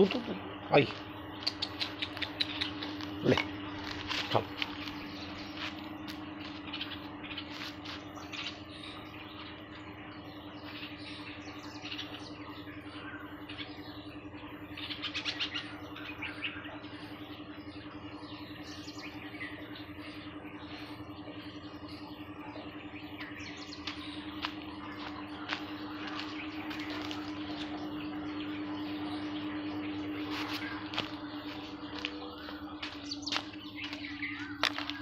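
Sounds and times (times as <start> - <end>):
birds chirping: 0.0 - 35.0
steady low hum: 0.0 - 35.0.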